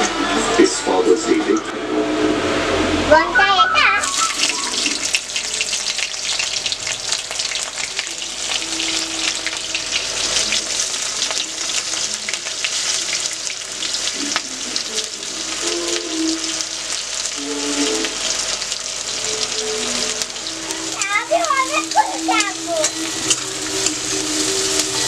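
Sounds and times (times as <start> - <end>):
hot oil sizzling and crackling: 3.8 - 25.0.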